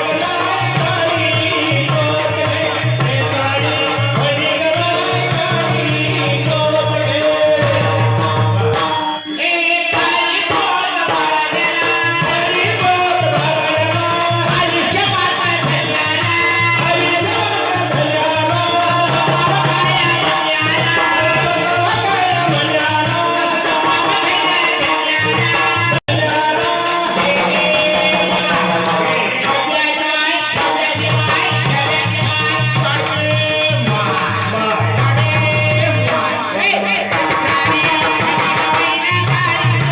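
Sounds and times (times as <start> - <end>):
jingling rattling percussion: 0.0 - 39.9.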